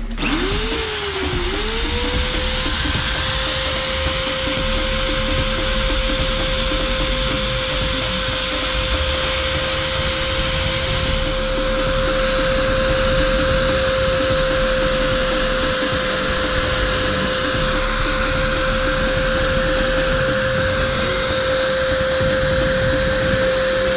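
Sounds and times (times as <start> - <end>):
drill press whine: 0.0 - 23.9.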